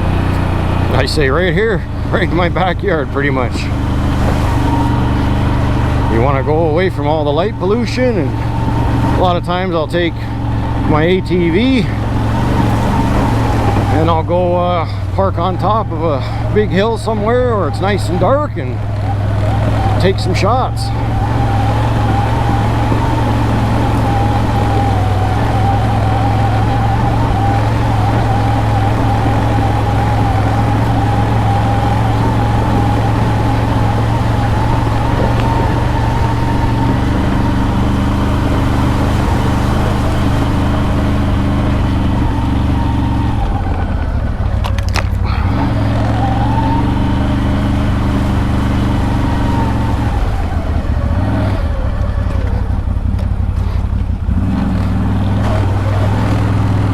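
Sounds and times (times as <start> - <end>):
steady whine: 0.0 - 51.0
atv engine running: 0.0 - 56.9.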